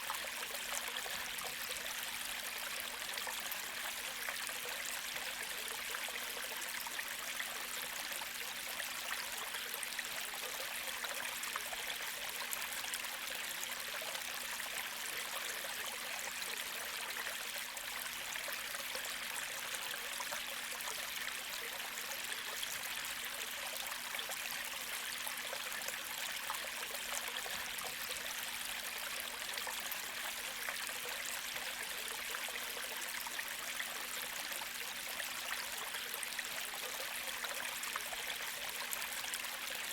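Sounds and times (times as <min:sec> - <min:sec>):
creek water flowing: 0:00.0 - 0:39.9.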